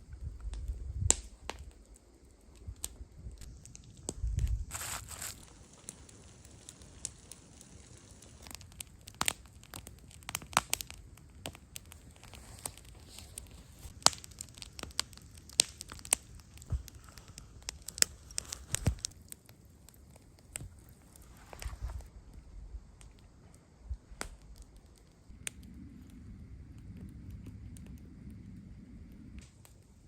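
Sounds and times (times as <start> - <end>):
sharp crackles and snaps: 0.0 - 30.0.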